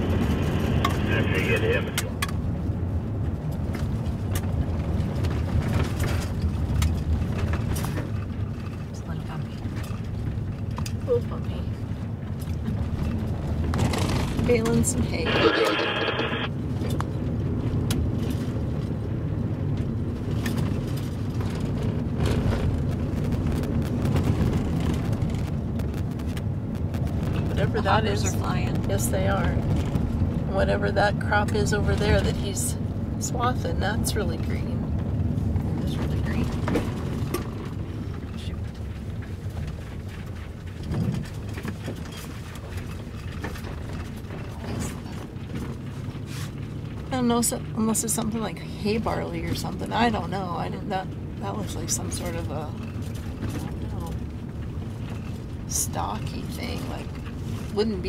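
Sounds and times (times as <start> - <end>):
car rumble on gravel road: 0.0 - 58.0.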